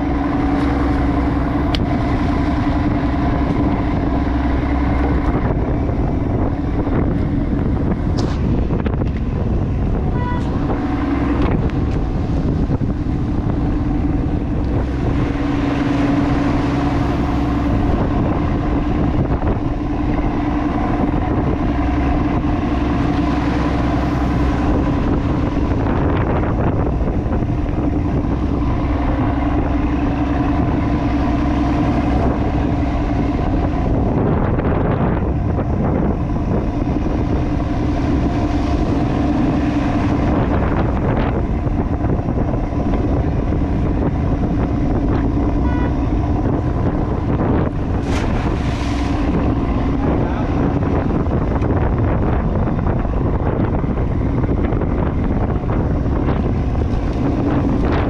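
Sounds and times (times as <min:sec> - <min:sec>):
boat engine humming: 0:00.0 - 0:58.0
wind on microphone: 0:00.0 - 0:58.0.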